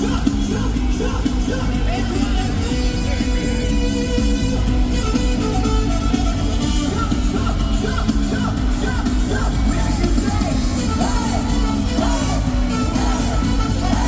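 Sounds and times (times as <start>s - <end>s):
live funk band playing: 0.0s - 14.0s
vocal calls over music: 0.0s - 14.0s.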